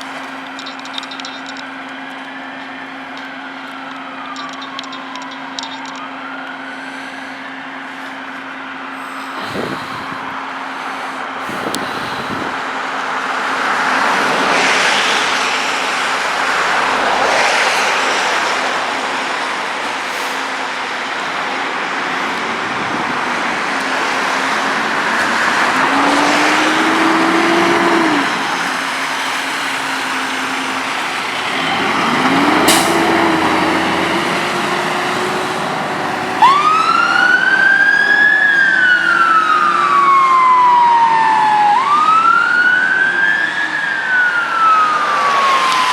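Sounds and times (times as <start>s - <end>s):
diesel engines running: 0.0s - 41.0s
siren wailing: 0.0s - 45.9s.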